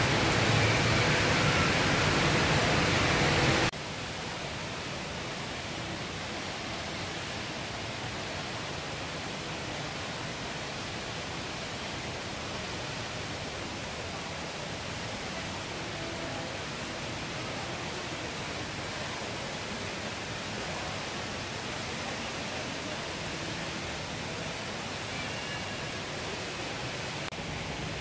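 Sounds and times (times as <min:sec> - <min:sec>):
indoor waterfall rushing: 0:00.0 - 0:28.0.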